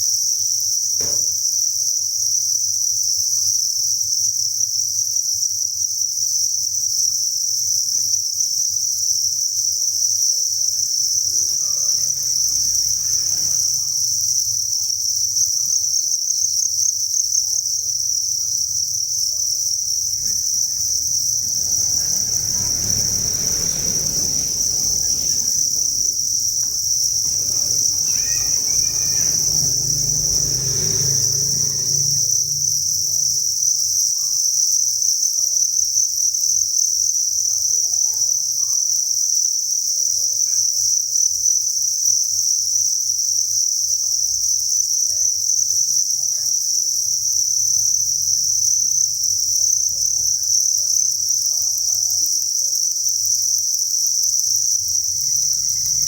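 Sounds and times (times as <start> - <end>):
crickets chirping in chorus: 0.0 - 56.0.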